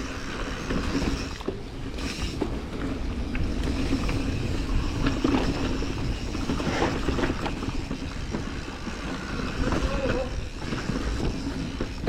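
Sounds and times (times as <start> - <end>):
bike tyres on dirt: 0.0 - 12.0.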